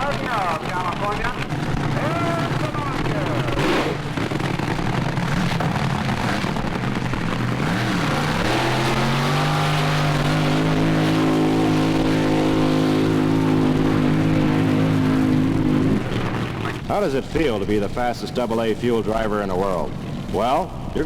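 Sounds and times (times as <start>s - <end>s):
dragster engine revving: 0.0s - 21.0s.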